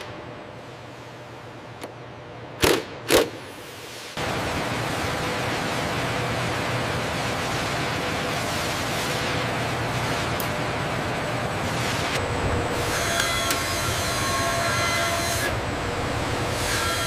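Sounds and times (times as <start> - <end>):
factory hiss and hum: 0.0 - 17.0.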